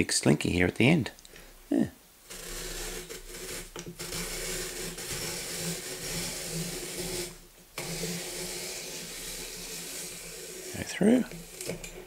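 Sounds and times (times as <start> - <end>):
apple peeler crank grinding: 2.3 - 12.0
blade paring apple: 2.3 - 12.0.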